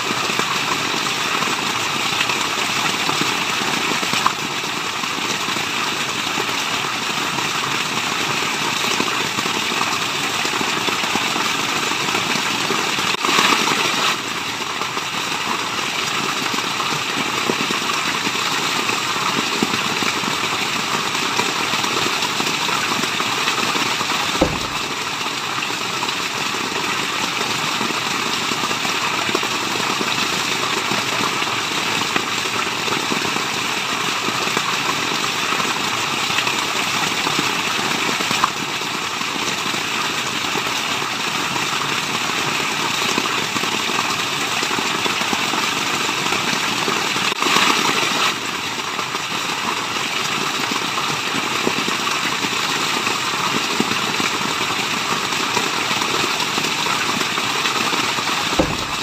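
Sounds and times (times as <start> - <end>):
waterfall rushing and splashing: 0.0 - 59.0.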